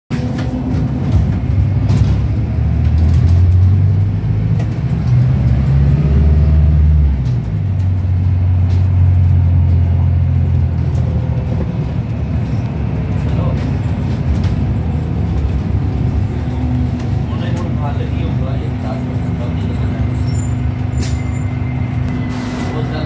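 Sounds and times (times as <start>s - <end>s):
bus diesel engine droning: 0.1s - 23.0s.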